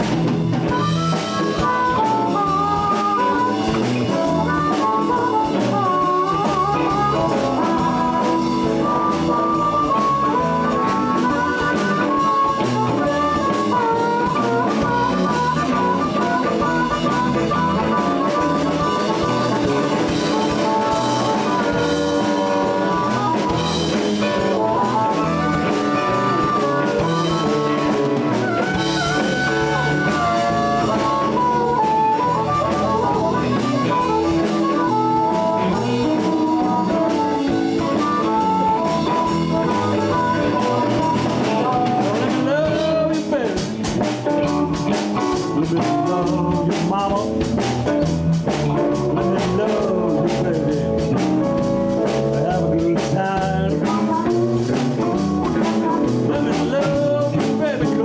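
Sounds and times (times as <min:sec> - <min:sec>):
blues band playing: 0:00.0 - 0:58.0
lead guitar bending notes: 0:00.0 - 0:58.0.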